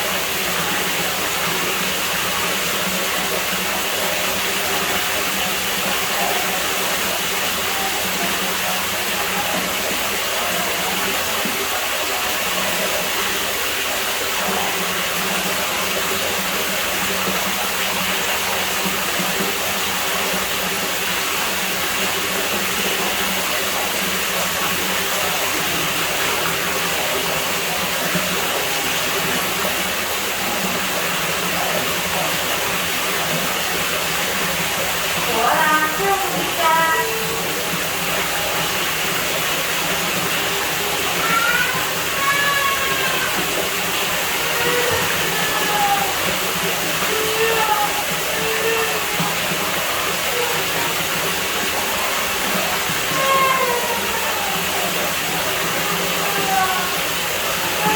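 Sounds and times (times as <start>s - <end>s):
water rushing: 0.0s - 57.9s.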